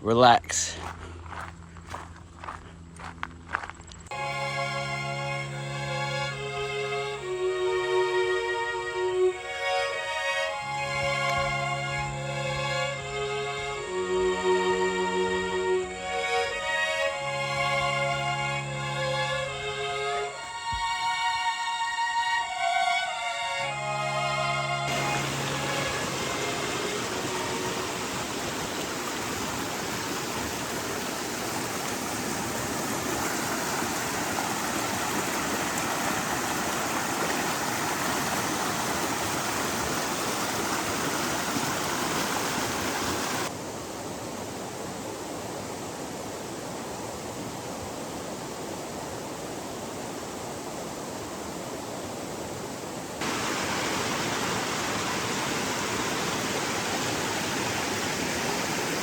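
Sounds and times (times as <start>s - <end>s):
creek water rushing over dam: 4.1s - 59.0s.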